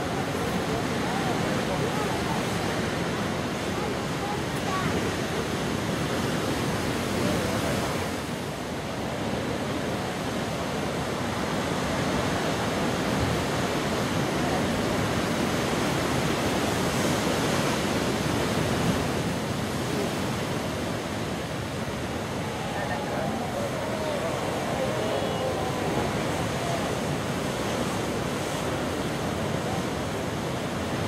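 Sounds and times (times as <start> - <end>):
ocean waves breaking: 0.0 - 31.0
wind: 0.0 - 31.0.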